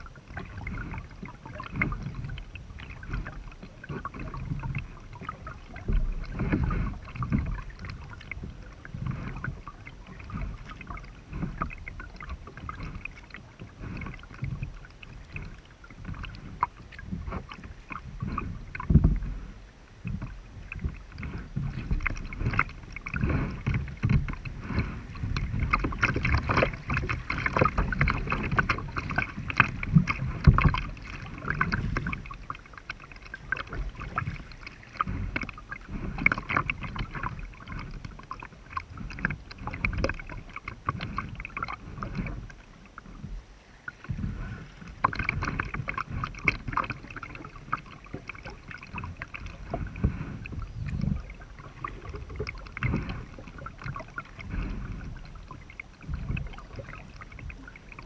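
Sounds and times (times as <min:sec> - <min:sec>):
river water splashing against kayak: 0:00.0 - 0:58.0.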